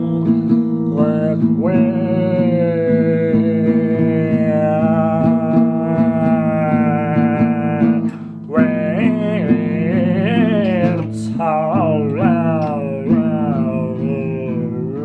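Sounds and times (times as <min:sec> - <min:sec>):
plucked rhythm: 0:00.0 - 0:15.0.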